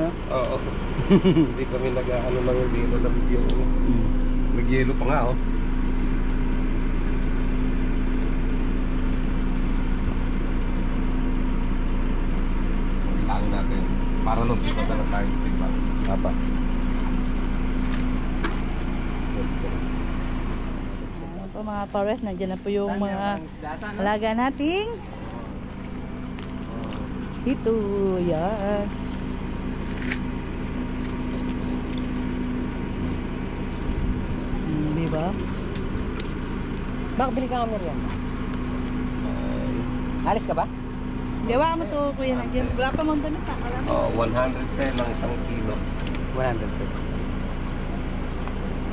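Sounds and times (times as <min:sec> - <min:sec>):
motor humming: 0:00.0 - 0:48.9
vehicle engine idling: 0:00.0 - 0:48.9.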